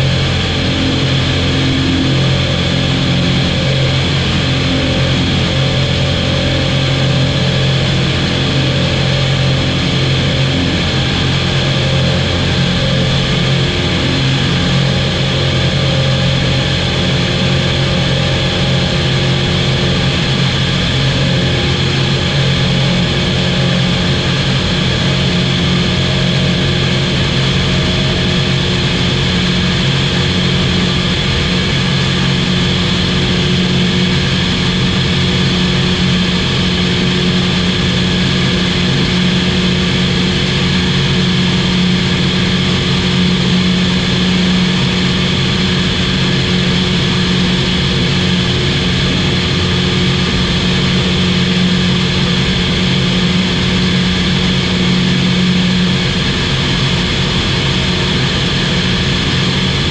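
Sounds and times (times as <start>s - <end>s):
light aircraft engine droning: 0.0s - 59.9s.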